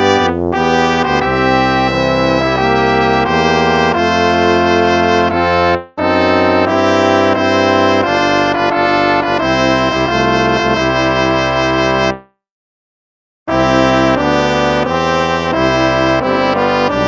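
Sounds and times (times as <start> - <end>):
instrumental hymn in held chords: 0.0 - 12.3, 13.5 - 17.0.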